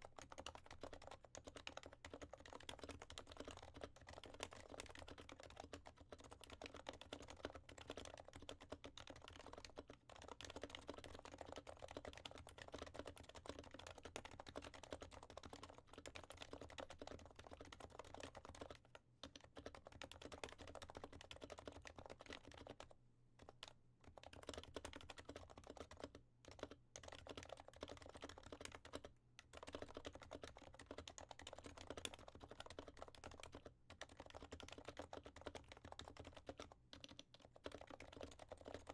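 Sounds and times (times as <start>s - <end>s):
quiet keyboard typing: 0.0s - 38.9s.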